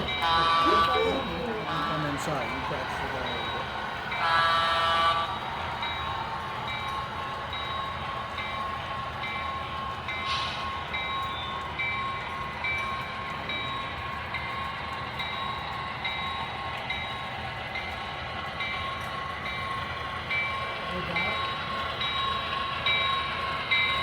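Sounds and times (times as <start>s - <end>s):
model train whine and rumble: 0.0s - 24.0s.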